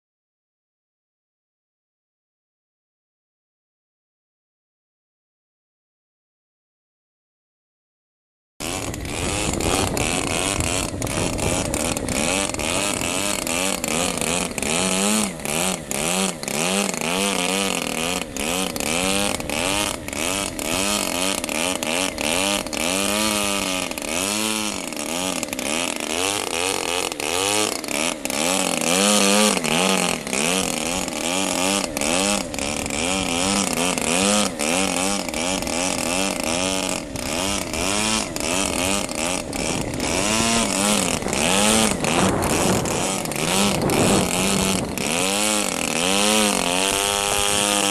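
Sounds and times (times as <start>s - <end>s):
model plane engine and propeller: 8.6s - 47.9s.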